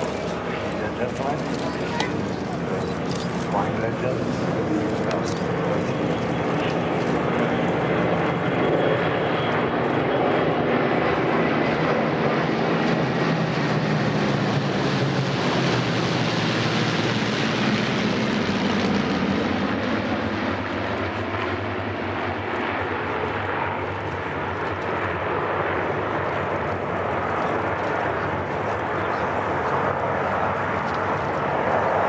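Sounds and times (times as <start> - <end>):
propeller aircraft engine drone: 0.0 - 32.0.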